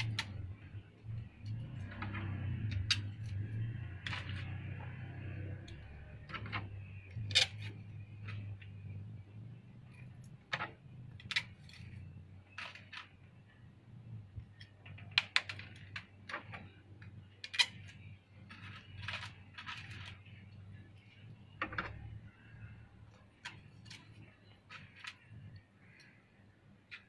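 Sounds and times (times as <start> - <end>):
wooden fan ribs clicking: 0.0 - 13.6, 14.2 - 27.0
low steady hum: 0.0 - 27.0.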